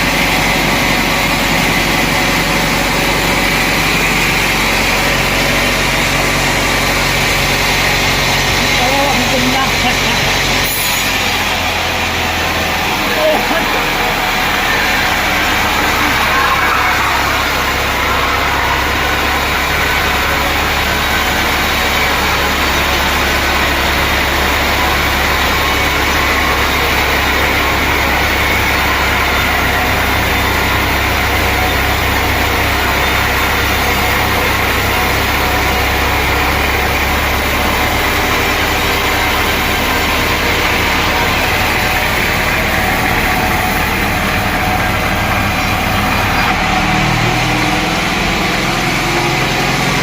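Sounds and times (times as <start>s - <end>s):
sawmill machinery running: 0.0s - 50.0s.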